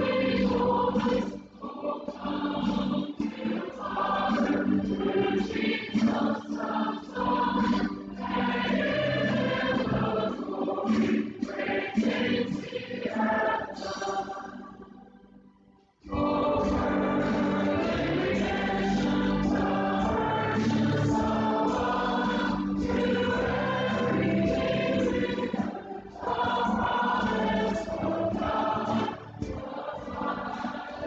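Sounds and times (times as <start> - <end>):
choir singing gospel song: 0.0 - 15.4, 16.0 - 31.0
instrumental accompaniment: 0.0 - 31.0.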